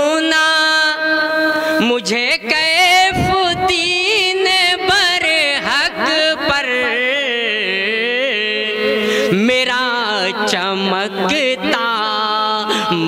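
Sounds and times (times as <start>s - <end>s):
man singing a devotional chant: 0.0s - 13.0s.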